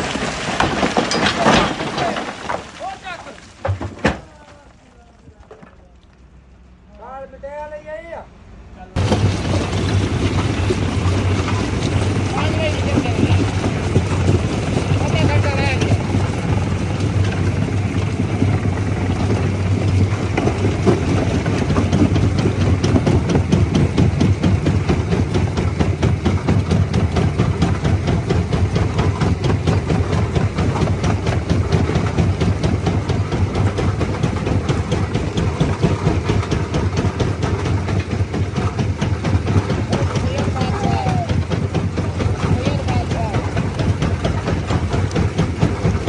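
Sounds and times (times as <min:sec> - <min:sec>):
clatter of rock being crushed: 0:00.0 - 0:06.3, 0:09.0 - 0:46.0
low machine hum: 0:08.5 - 0:46.0.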